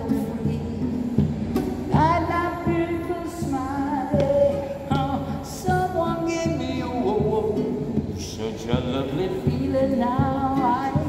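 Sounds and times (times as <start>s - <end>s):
classical guitar strumming: 0.0s - 11.0s
man singing: 2.0s - 11.0s.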